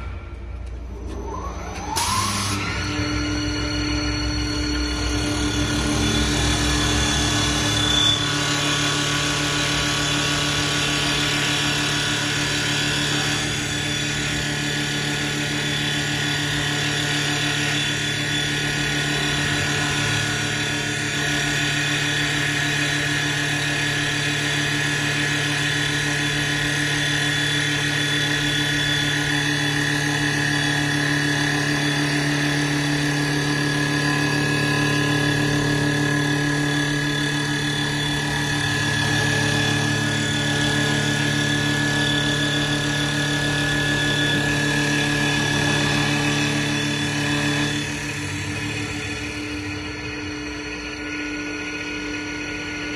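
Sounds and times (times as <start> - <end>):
lathe motor hum and whine: 0.0 - 52.9.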